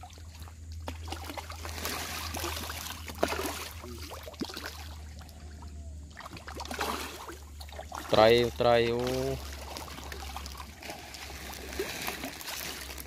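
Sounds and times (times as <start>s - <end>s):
fish splashing at water surface: 0.0s - 13.0s
steady low hum: 0.0s - 13.0s.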